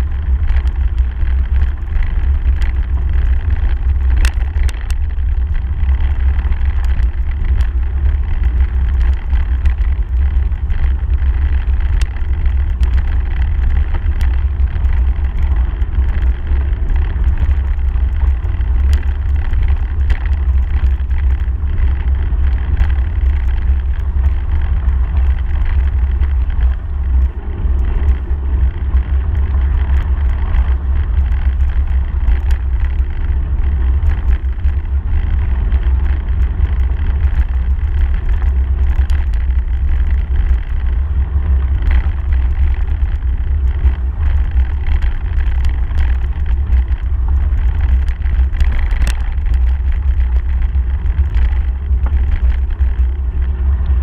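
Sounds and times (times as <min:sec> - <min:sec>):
sharp clicks and rattles: 0:00.0 - 0:54.0
wind rumble on microphone: 0:00.0 - 0:54.0.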